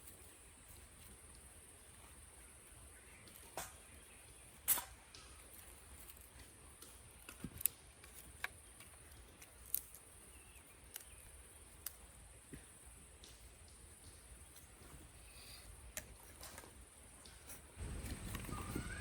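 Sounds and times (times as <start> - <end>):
campfire wood crackling: 0.0 - 19.0
faint insect chirr: 0.0 - 19.0.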